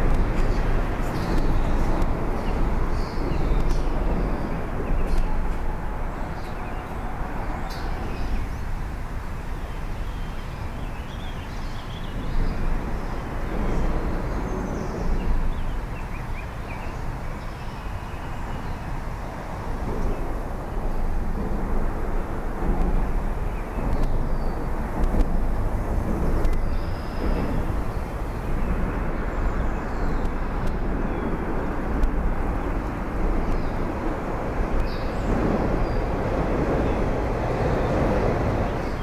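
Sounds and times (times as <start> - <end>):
low rumble of traffic: 0.0 - 39.0.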